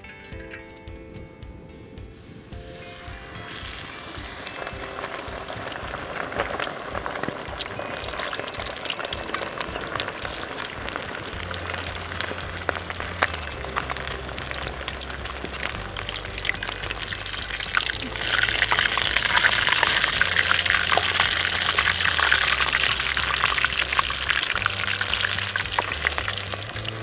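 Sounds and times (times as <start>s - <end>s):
chicken sizzling in hot oil: 2.2s - 27.0s.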